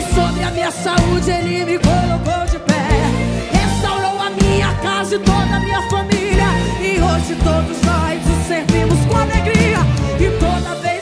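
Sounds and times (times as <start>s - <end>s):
live band playing worship song: 0.0s - 11.0s.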